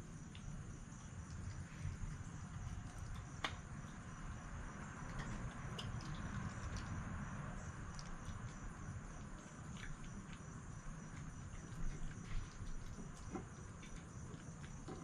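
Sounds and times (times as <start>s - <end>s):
fox chewing and crunching food: 0.0s - 15.0s.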